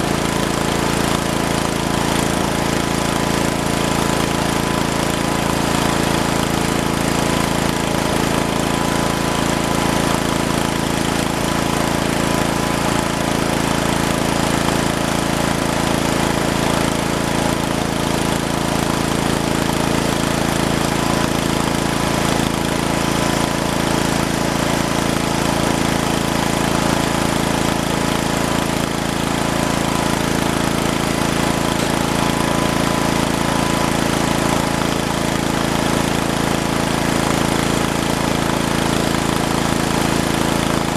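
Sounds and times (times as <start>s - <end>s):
snowplow engine running: 0.0s - 40.9s.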